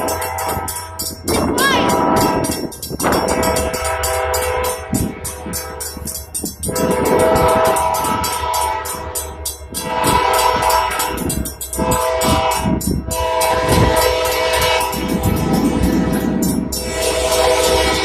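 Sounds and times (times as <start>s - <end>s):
train wheels clattering: 0.0s - 18.0s
train horn chord blasts: 1.8s - 6.0s, 6.6s - 11.2s, 11.8s - 16.2s, 16.8s - 18.0s.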